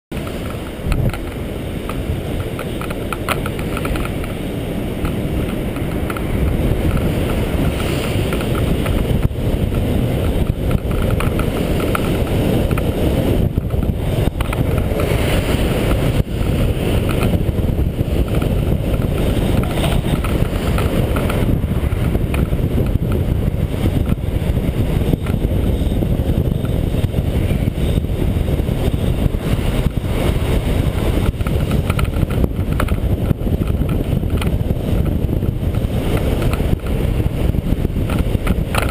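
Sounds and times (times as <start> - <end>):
skate wheels rolling on asphalt: 0.1 - 38.9
wind rushing over microphone: 0.1 - 38.9.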